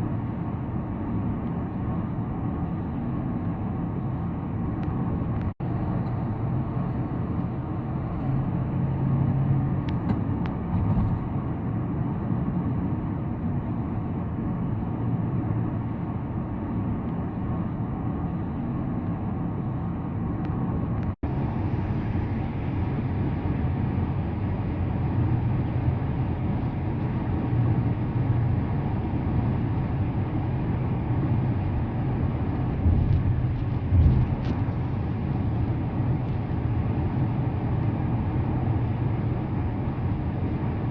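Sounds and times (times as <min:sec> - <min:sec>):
car driving at speed: 0:00.0 - 0:40.9.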